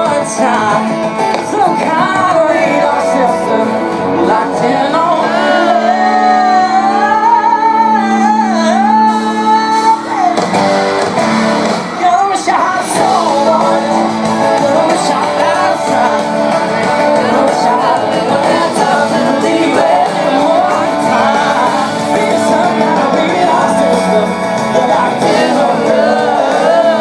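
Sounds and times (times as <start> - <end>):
man singing: 0.0 - 10.5, 11.9 - 27.0
live country-pop band with guitar: 0.0 - 27.0.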